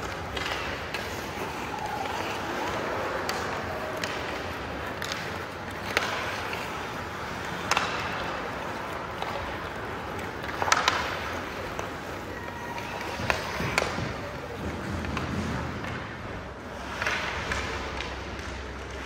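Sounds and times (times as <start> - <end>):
hockey sticks knocking puck: 0.0 - 19.0
skates scraping on ice: 0.0 - 19.0.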